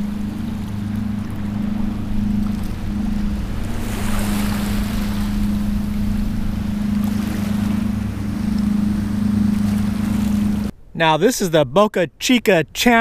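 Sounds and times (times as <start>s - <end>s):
outboard motor humming: 0.0s - 10.7s
water rushing past hull: 0.0s - 10.8s.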